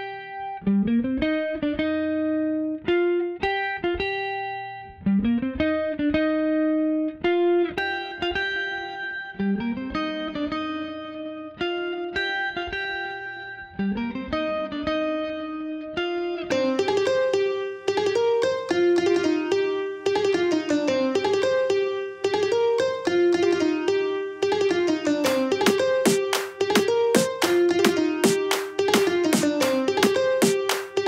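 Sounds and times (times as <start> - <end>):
plucked guitar melody: 0.0 - 31.0.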